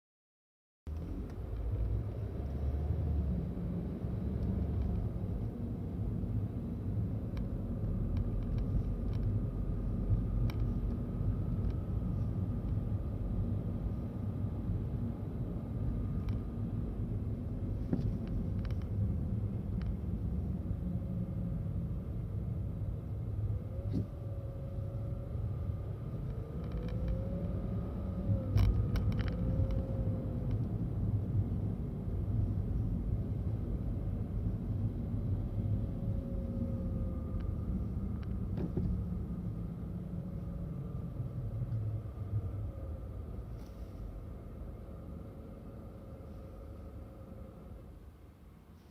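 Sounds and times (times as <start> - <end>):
car air conditioner low rumble: 0.9 - 48.9.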